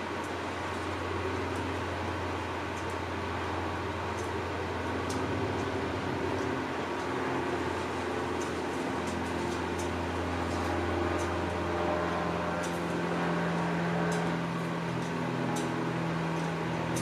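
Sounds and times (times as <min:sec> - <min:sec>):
low hum of held tones: 0:00.0 - 0:17.0.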